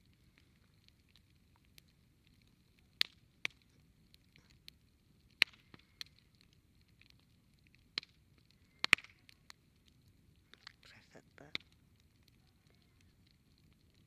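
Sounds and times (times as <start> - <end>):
faint steady hiss: 0.0 - 14.0
wood fire crackling: 0.0 - 14.0.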